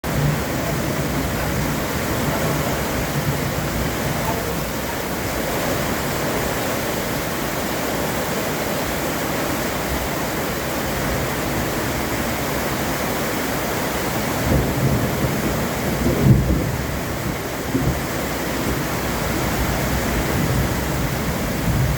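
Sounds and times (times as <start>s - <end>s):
heavy rain: 0.0s - 21.9s.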